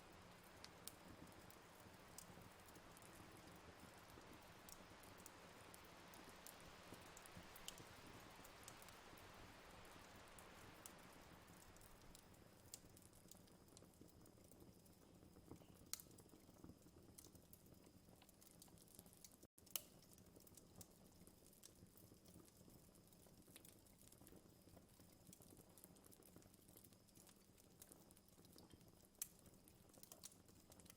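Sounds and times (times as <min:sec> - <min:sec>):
campfire crackling: 0:00.0 - 0:30.9.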